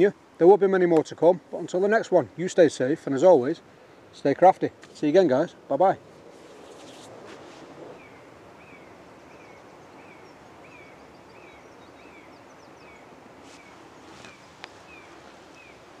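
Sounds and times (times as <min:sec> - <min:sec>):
low outdoor hiss: 0:00.0 - 0:16.0.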